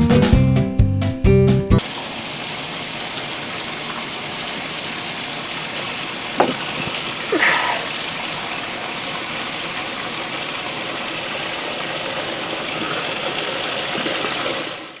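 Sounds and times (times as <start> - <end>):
rushing hiss: 1.8 - 14.8.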